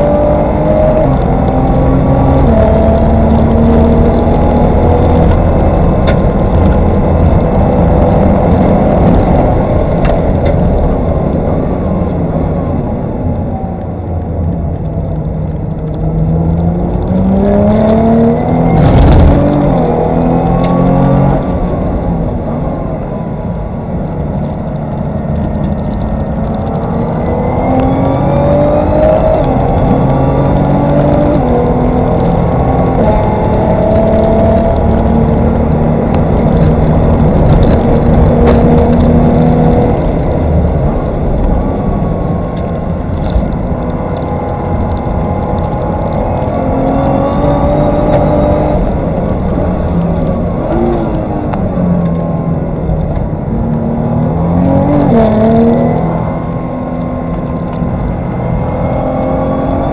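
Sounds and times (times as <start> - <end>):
car engine revving through gears: 0.0 - 12.9, 14.4 - 59.9.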